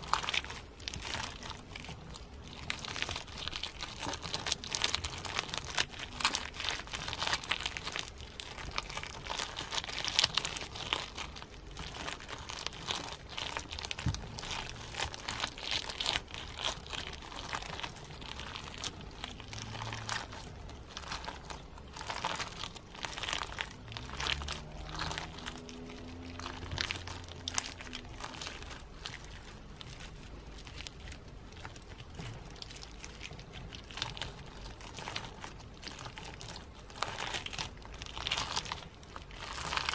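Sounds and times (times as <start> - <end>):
sequin slime crunching: 0.0 - 39.9.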